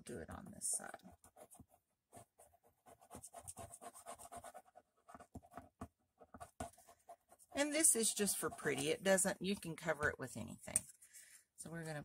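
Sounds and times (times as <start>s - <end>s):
glue nib scratching on cardstock: 0.9s - 10.9s.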